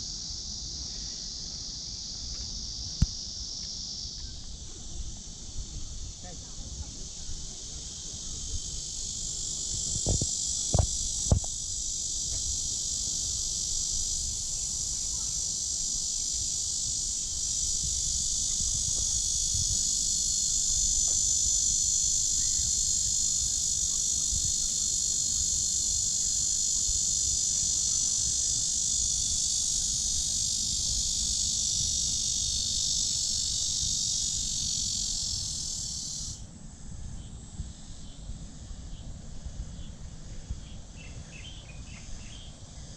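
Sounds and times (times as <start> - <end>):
cicadas droning: 0.0 - 42.9.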